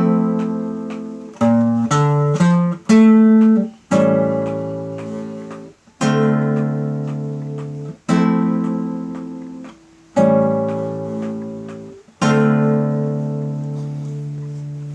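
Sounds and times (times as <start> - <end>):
acoustic guitar strumming chords: 0.0 - 14.9.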